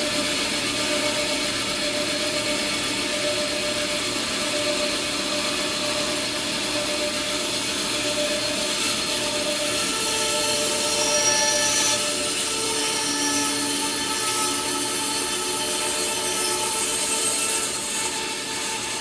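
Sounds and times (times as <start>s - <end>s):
power tool cutting wood: 0.0s - 19.0s.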